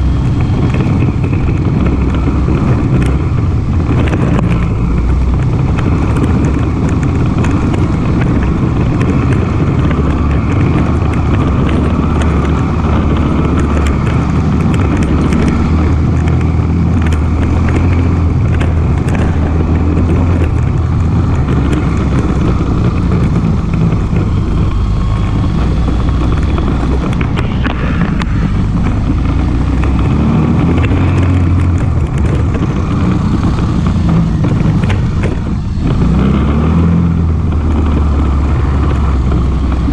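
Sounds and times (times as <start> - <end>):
atv engine running: 0.0 - 39.9
small rattles and knocks: 0.0 - 39.9.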